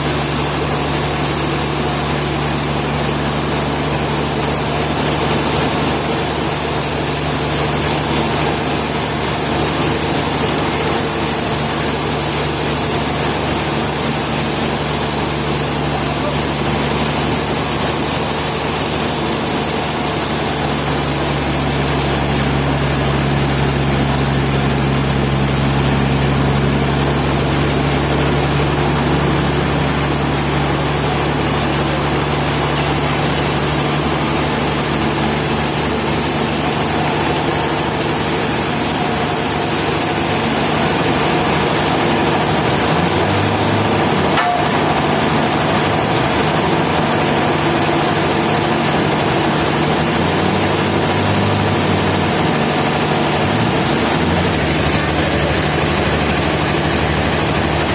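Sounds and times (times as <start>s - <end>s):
sawmill machinery humming: 0.0s - 57.9s.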